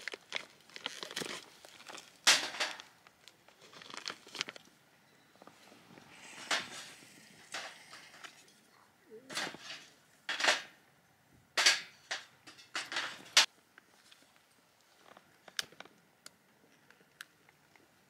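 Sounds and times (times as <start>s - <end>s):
light crinkling: 0.0s - 10.0s, 12.0s - 18.0s.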